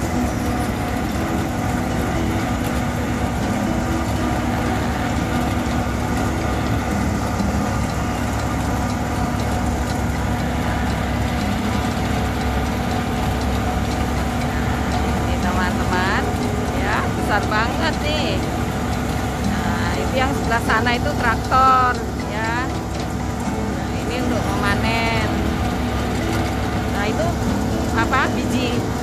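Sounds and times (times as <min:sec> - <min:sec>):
combine harvester diesel engine: 0:00.0 - 0:29.0.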